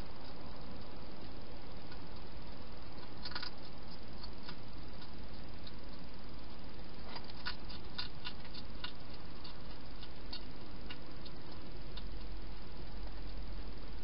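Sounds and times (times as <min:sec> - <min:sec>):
steady hiss: 0:00.0 - 0:14.0
hedgehog chewing food: 0:00.2 - 0:13.5.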